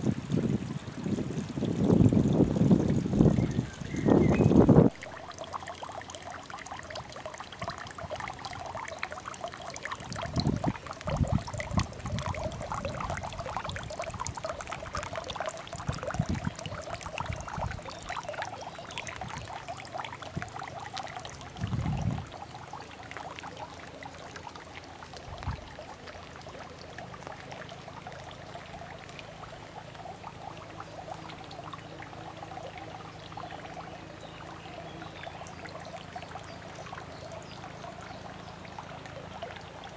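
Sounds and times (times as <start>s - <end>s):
waterfall splashing into pond: 0.0s - 39.9s.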